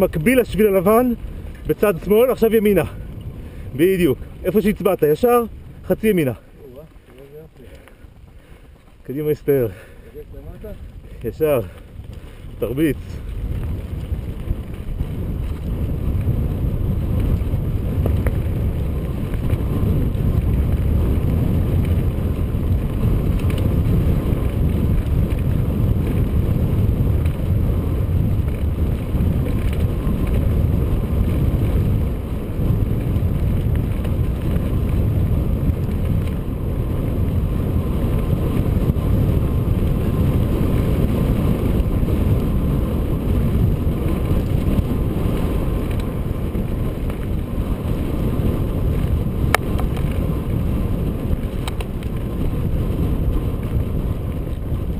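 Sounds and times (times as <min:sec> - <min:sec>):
bike rattling over dirt: 0:00.0 - 0:54.9
wind buffeting microphone: 0:00.0 - 0:54.9.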